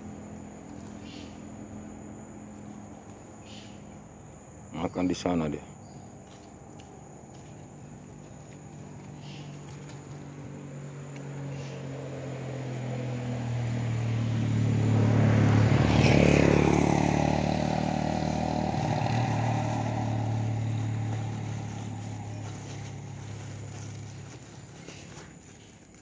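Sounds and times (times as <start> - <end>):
vehicle driving past: 0.0 - 4.6, 5.8 - 25.3.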